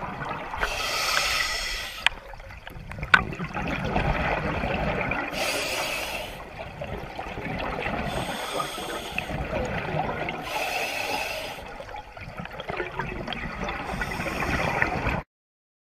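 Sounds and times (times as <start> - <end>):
exhaled bubbles rushing underwater: 0.0 - 15.2
underwater gurgling: 0.0 - 15.2.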